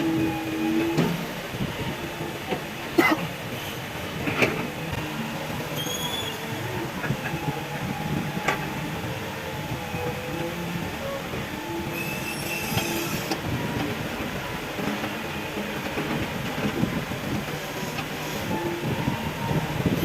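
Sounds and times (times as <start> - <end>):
excavator diesel engine working: 0.0 - 20.0
hydraulics whining: 0.0 - 20.0.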